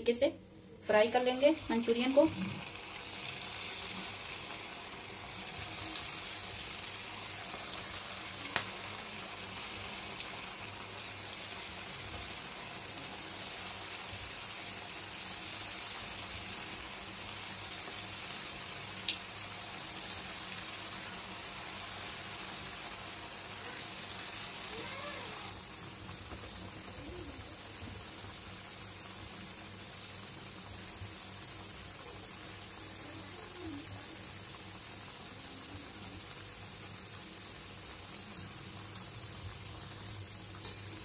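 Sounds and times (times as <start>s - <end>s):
food deep-frying in oil: 0.0s - 41.0s.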